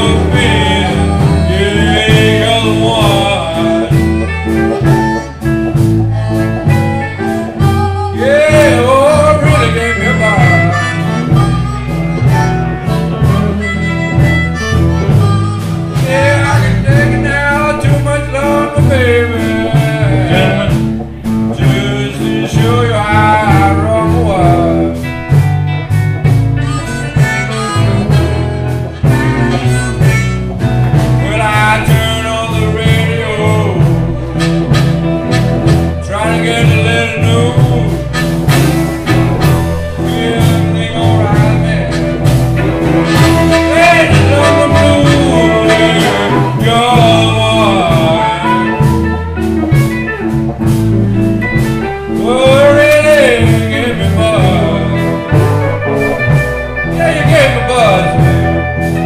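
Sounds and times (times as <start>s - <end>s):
blues harmonica solo: 0.0s - 59.0s
live blues band: 0.0s - 59.0s.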